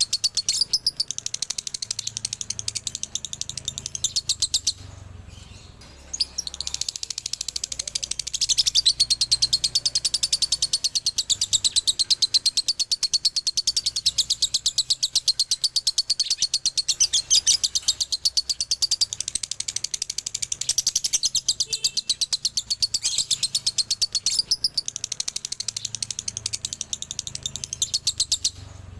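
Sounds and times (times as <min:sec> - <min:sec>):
lovebird chattering: 0:00.0 - 0:28.6.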